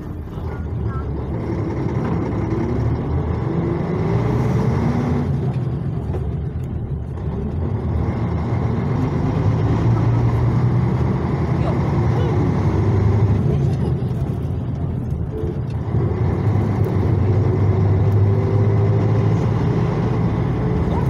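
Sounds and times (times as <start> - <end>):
diesel coach engine droning: 0.0 - 21.0
road noise: 0.0 - 21.0.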